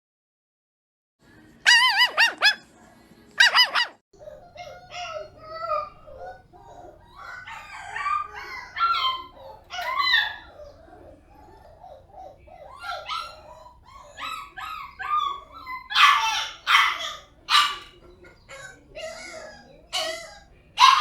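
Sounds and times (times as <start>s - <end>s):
sharp puppy barks: 1.7s - 2.6s, 3.4s - 21.0s
puppies yelping and whining: 3.4s - 21.0s.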